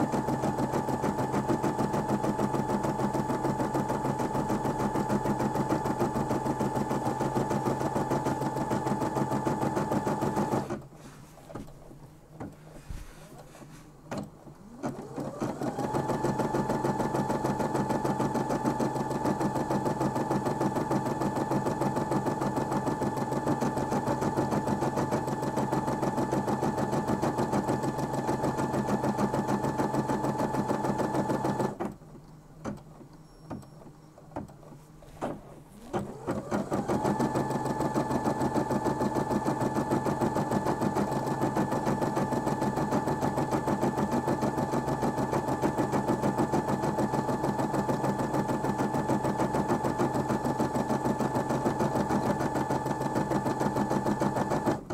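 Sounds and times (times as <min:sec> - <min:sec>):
embroidery machine stitching: 0:00.0 - 0:12.7, 0:14.1 - 0:32.0, 0:32.6 - 0:54.9.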